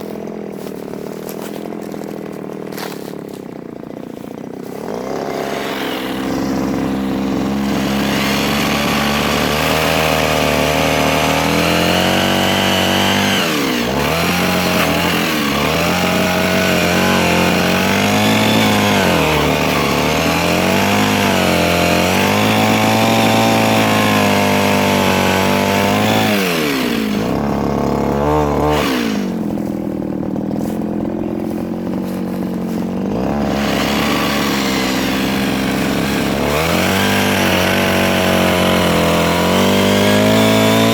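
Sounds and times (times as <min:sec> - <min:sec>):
mini chainsaw cutting wood: 0:00.0 - 0:40.9.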